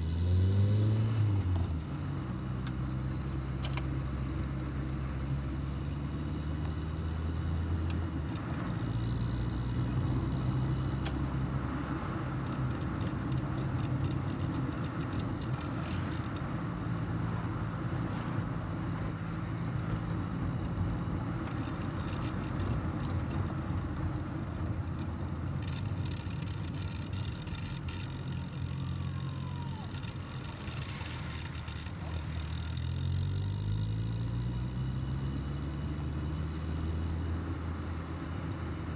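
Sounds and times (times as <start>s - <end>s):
car engine: 0.0s - 38.9s.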